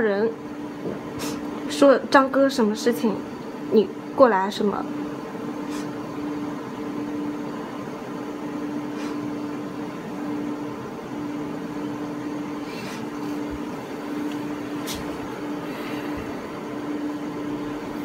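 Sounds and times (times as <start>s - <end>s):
electrical and fan hum: 0.0s - 18.0s.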